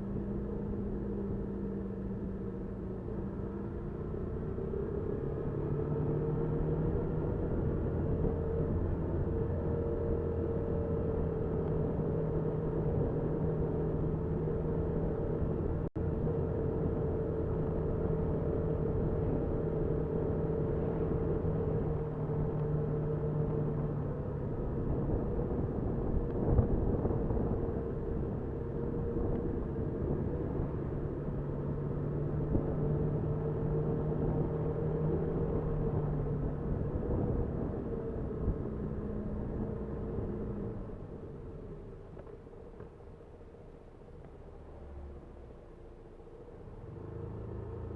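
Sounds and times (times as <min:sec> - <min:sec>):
motorcycle engine running: 0:00.0 - 0:43.4
wind and road noise: 0:00.0 - 0:47.9.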